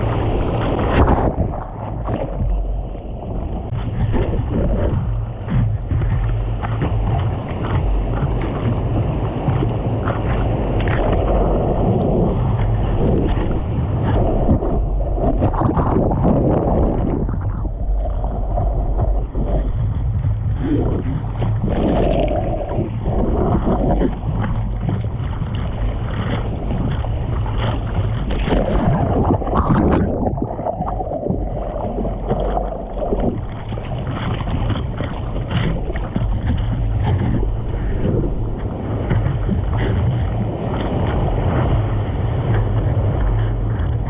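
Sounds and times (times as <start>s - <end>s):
water rushing and splashing: 0.0s - 44.0s
wind buffeting the microphone: 0.0s - 44.0s.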